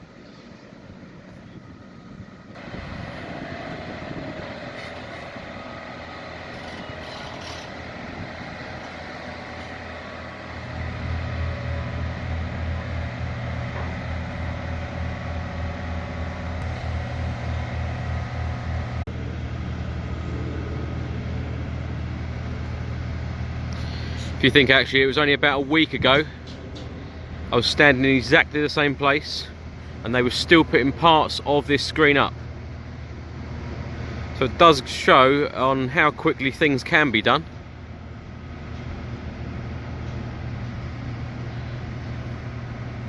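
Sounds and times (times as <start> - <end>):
large engine throbbing: 0.0 - 43.0
urban outdoor hum: 0.0 - 43.0.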